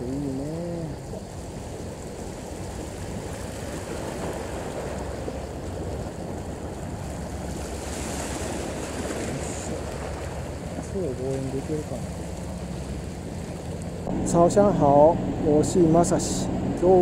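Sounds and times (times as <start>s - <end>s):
sea rushing at the shore: 0.0s - 17.0s
wind rumbling on the microphone: 0.0s - 17.0s.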